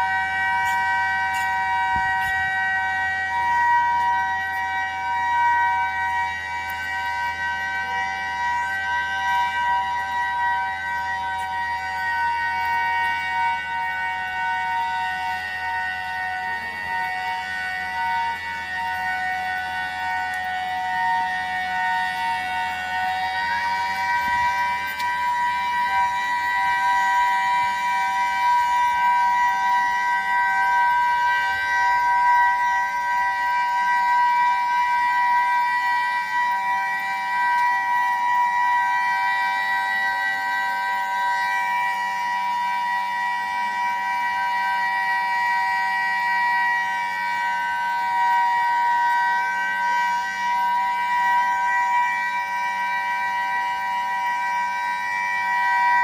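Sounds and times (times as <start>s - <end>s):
siren steady two-pitch tone: 0.0s - 56.0s.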